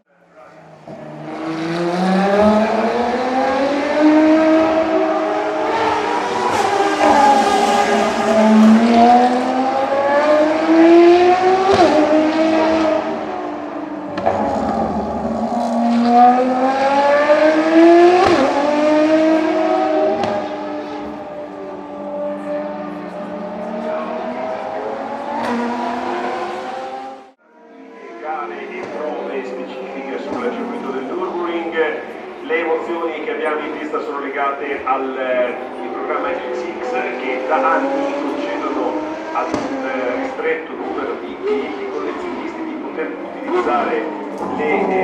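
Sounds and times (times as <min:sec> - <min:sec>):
car engine at full throttle: 0:00.2 - 0:45.0.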